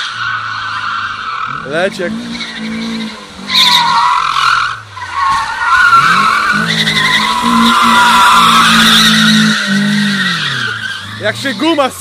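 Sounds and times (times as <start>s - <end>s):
car engine at high revs: 0.0s - 12.0s
tyres squealing: 0.0s - 12.0s.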